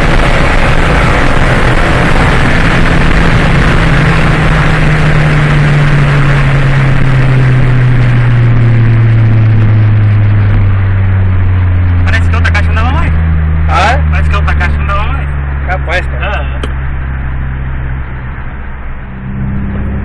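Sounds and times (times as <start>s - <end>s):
car engine and exhaust revs falling: 0.0s - 20.0s.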